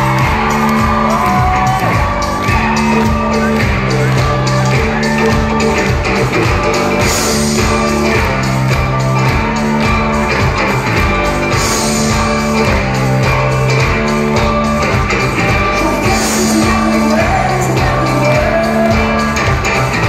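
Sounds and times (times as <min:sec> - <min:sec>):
bass guitar: 0:00.0 - 0:20.0
drum beat: 0:00.0 - 0:20.0.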